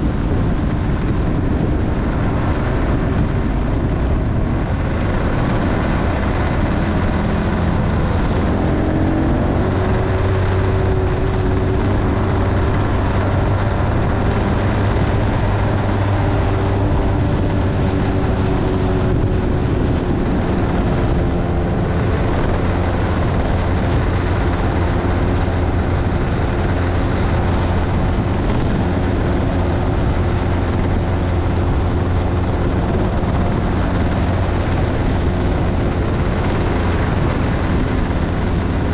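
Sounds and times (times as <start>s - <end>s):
motorcycle engine running: 0.0s - 38.9s
rushing wind noise: 0.0s - 38.9s.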